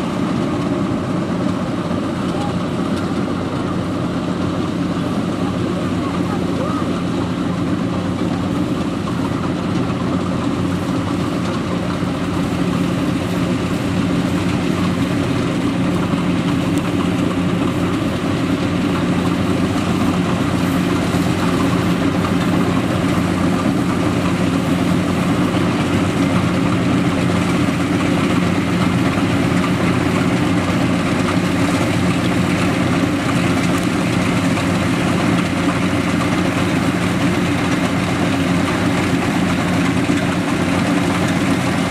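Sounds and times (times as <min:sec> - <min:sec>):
combine harvester engine droning: 0:00.0 - 0:41.9.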